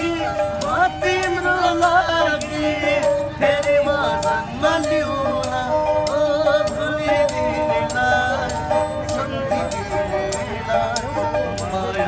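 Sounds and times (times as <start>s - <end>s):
light jingle on the beat: 0.0s - 12.0s
men singing: 0.0s - 12.0s.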